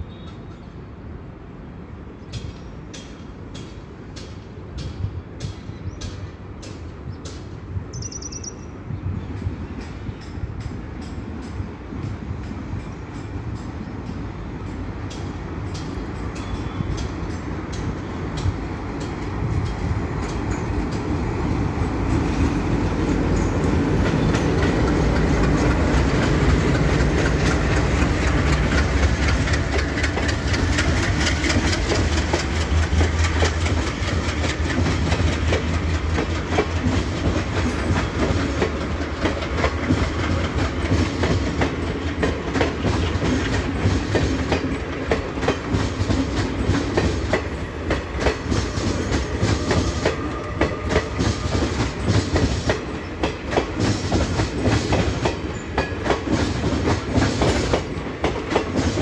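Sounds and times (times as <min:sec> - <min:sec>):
train rumbling past: 0:00.0 - 0:59.0
wheels clicking over rail joints: 0:02.2 - 0:59.0.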